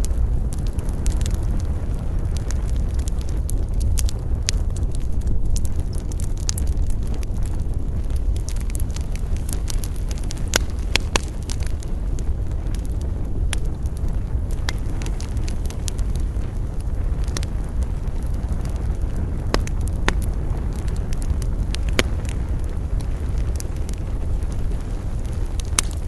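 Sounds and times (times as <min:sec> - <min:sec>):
burning wood crackling and popping: 0:00.0 - 0:26.0
campfire flames rushing: 0:00.0 - 0:26.0.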